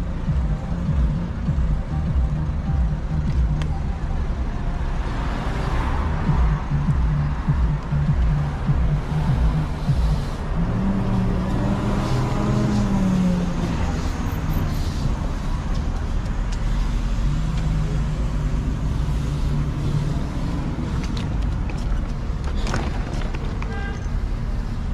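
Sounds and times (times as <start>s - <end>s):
passing vehicle engine hum: 0.0s - 23.6s
city street traffic rumble: 0.0s - 24.9s.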